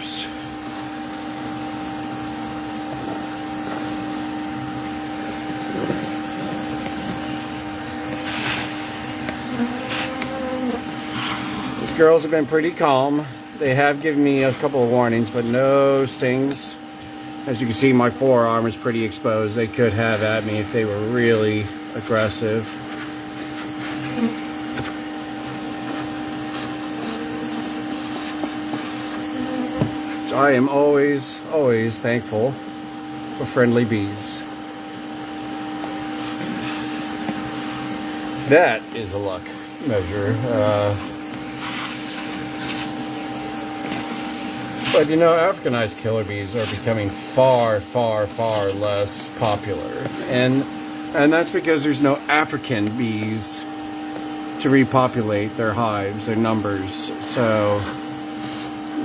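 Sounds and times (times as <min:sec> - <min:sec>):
vacuum motor humming: 0:00.0 - 0:59.0.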